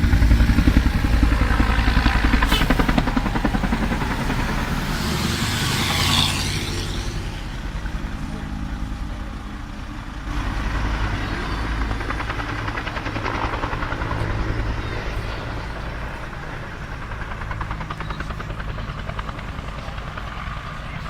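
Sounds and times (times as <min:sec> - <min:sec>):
helicopter rotor pulsing: 0:00.0 - 0:21.0.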